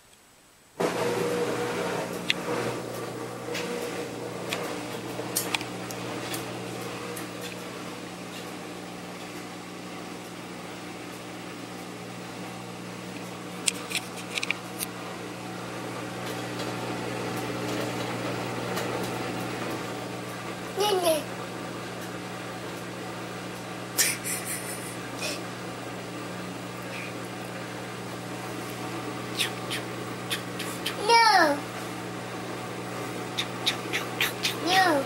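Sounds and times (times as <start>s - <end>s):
washing machine motor hum: 0.8s - 35.0s.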